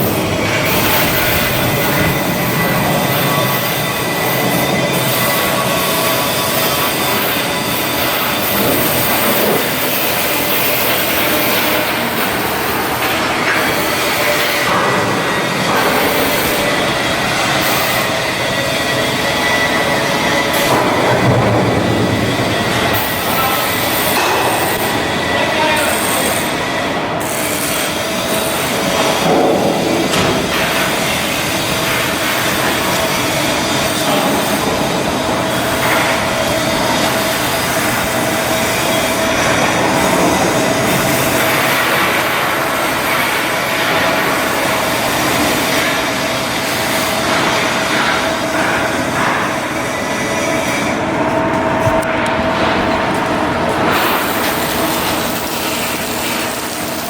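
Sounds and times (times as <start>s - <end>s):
high-pitched whine: 0.0s - 57.0s
industrial rushing din: 0.0s - 57.0s
shipyard machinery and metalworking: 0.0s - 57.0s.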